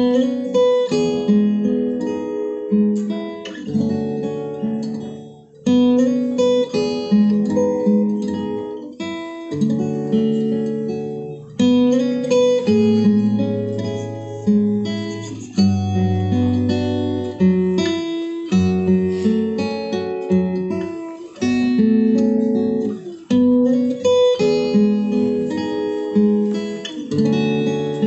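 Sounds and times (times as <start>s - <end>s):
solo acoustic guitar: 0.0s - 28.0s.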